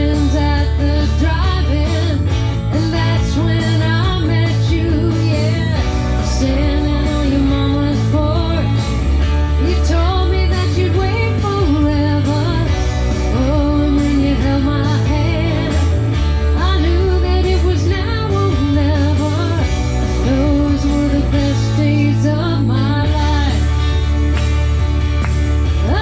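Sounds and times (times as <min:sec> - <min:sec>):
live band playing country-rock: 0:00.0 - 0:26.0.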